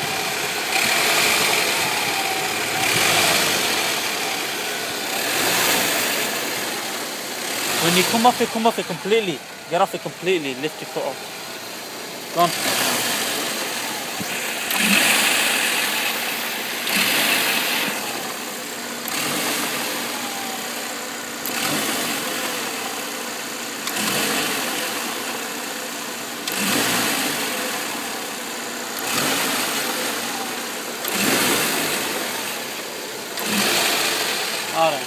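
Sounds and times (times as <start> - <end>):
car engine idling roughly: 0.0 - 35.0.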